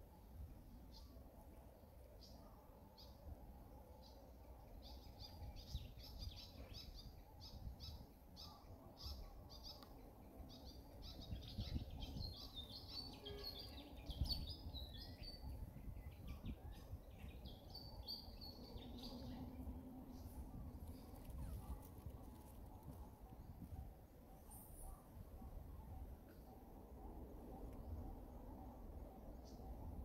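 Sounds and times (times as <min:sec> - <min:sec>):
small birds chirping: 0:00.7 - 0:30.0.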